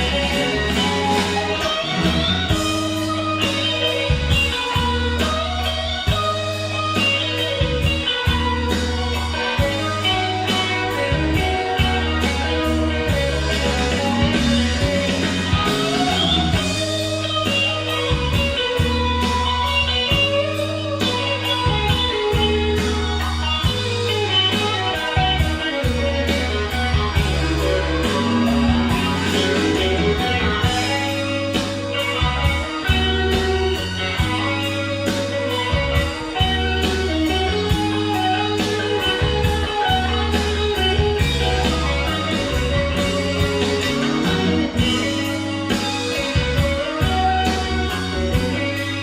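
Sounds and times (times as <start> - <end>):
instrumental rock ballad: 0.0 - 49.0.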